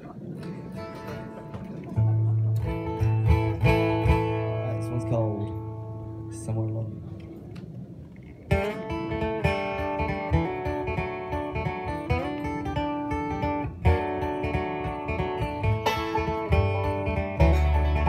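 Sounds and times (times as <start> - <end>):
acoustic guitar: 0.0 - 6.6, 8.5 - 18.0
plucked upright bass: 0.0 - 7.6, 8.3 - 18.0.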